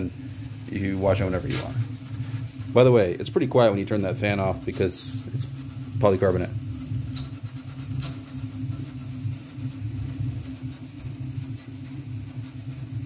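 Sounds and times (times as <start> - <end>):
printer motors humming: 0.0 - 13.0.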